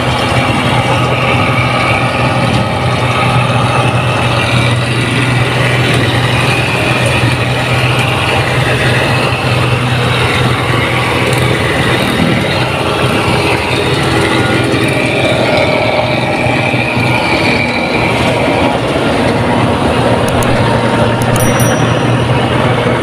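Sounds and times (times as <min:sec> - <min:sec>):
combine harvester diesel engine: 0:00.0 - 0:23.0
machinery clatter: 0:00.0 - 0:23.0.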